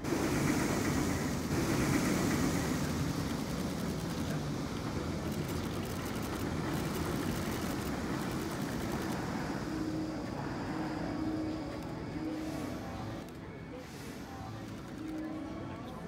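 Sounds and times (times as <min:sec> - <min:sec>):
roller coaster rumbling on track: 0:00.0 - 0:16.0.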